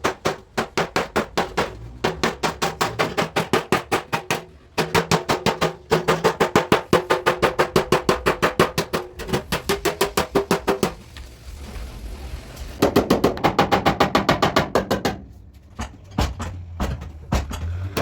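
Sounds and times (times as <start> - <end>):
hammer tapping sheet metal: 0.0 - 11.0, 12.8 - 18.0.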